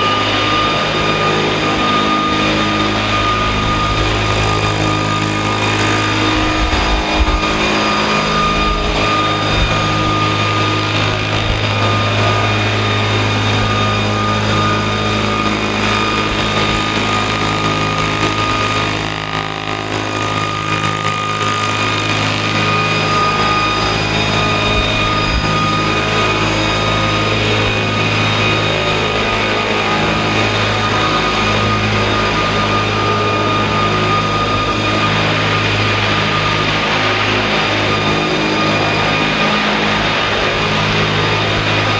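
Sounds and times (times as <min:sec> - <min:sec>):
model helicopter rotors hum and whine: 0:00.0 - 0:41.9.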